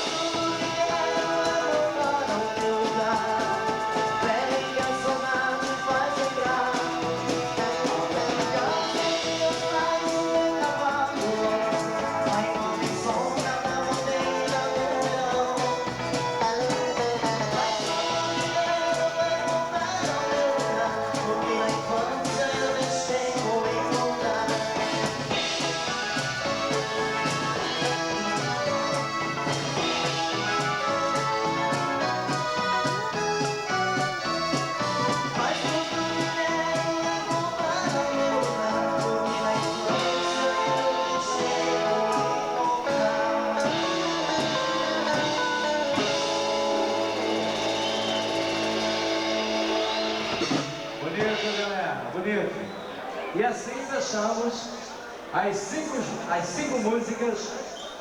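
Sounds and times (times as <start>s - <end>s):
steady drum beat: 0.0s - 52.8s
dance band playing: 0.0s - 58.0s.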